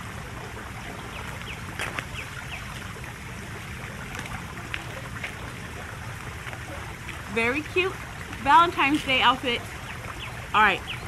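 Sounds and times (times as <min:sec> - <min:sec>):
fountain water trickling: 0:00.0 - 0:11.0.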